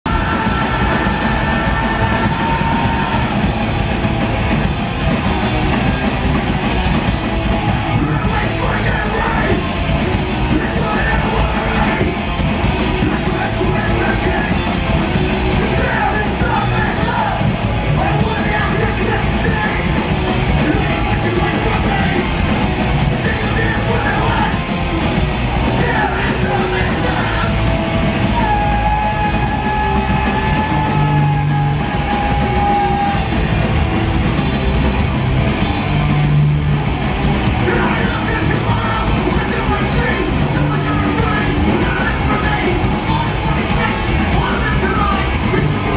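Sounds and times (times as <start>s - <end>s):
punk band playing: 0.0s - 45.9s
shouted vocals: 0.1s - 34.1s, 35.5s - 45.9s.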